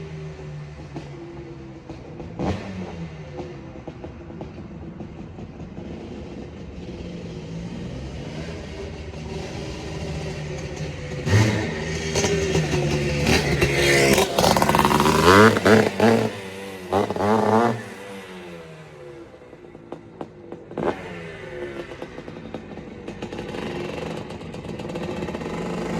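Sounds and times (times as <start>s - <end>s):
two-stroke engine revving: 0.0s - 25.9s.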